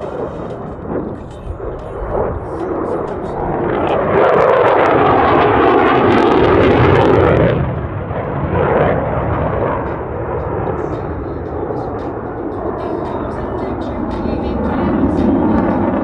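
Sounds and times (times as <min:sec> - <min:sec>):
fighter jet engine passing: 0:00.0 - 0:16.0.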